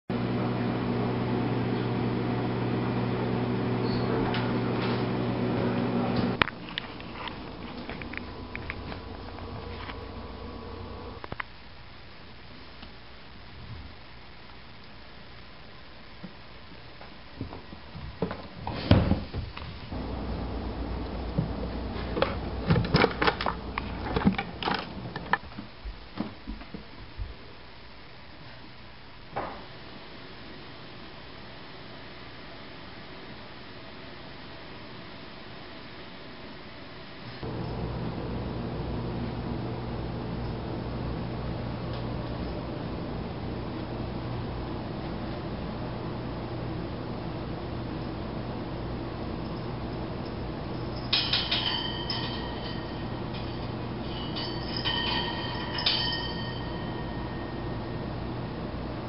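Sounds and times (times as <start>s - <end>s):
low electrical hum: 0.1s - 59.0s.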